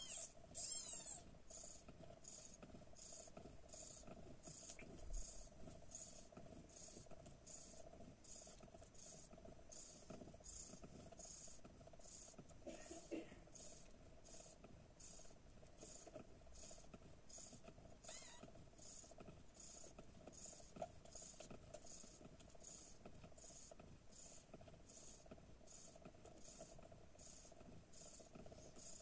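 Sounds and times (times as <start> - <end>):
cat purring faintly: 0.0 - 29.0
soft rhythmic hiss: 0.0 - 29.0.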